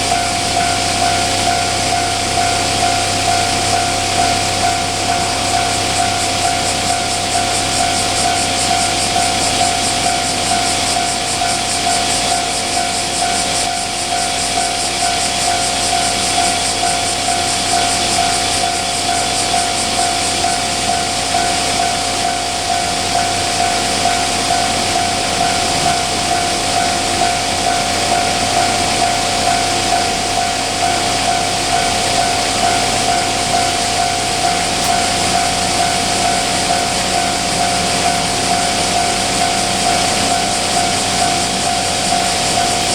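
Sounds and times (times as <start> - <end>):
level crossing warning bell: 0.0 - 42.9.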